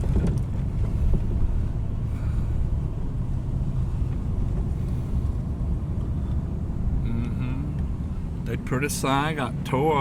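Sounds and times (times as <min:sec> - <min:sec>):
wind against car: 0:00.0 - 0:08.4
road and engine noise: 0:00.0 - 0:10.0.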